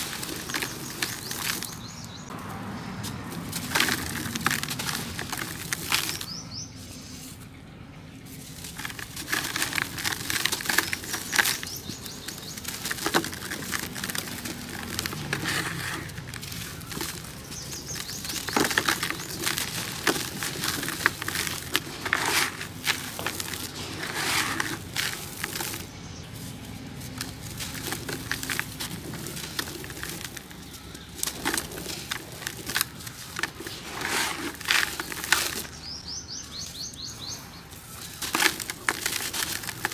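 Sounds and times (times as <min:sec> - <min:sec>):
crisp crackles: 0:00.0 - 0:02.3, 0:03.0 - 0:07.5, 0:08.2 - 0:39.9
cement lumps crumbling in hands: 0:00.0 - 0:02.4, 0:03.0 - 0:07.4, 0:08.2 - 0:39.9.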